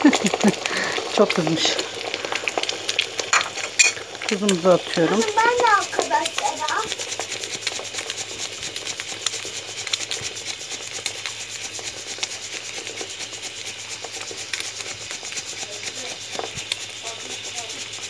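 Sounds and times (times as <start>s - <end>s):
eggs frying in hot oil: 0.0s - 18.0s.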